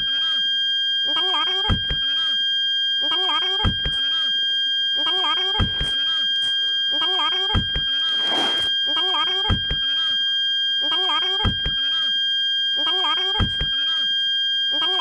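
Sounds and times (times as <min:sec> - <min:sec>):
parking sensor steady tone: 0:00.0 - 0:15.0.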